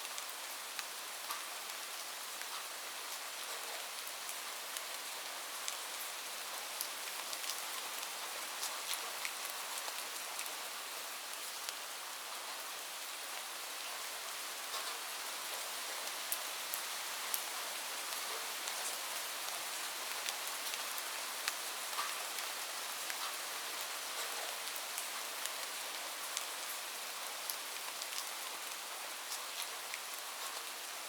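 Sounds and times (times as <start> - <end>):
light rain falling: 0.0 - 31.0.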